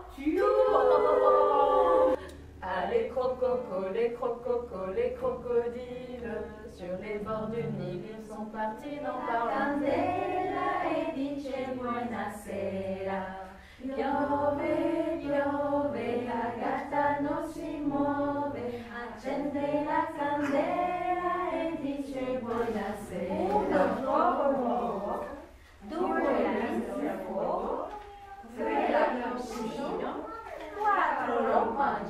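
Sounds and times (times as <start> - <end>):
women singing together: 0.0 - 32.0.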